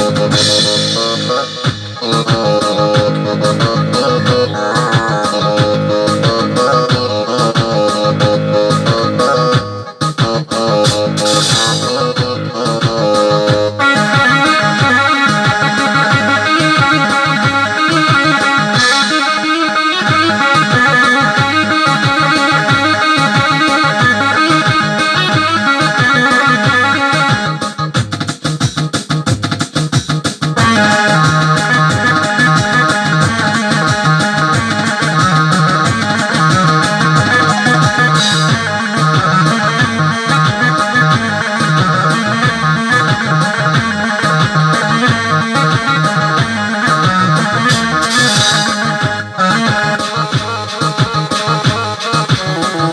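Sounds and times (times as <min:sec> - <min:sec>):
keyboard melody with rhythm: 0:00.0 - 0:52.9
programmed beat: 0:00.0 - 0:52.9.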